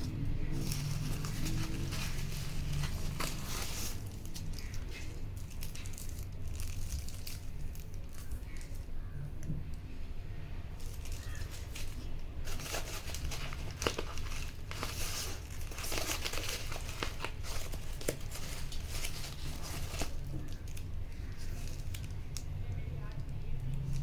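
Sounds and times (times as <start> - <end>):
packaging crinkled and torn: 0.0 - 9.5, 10.7 - 24.0.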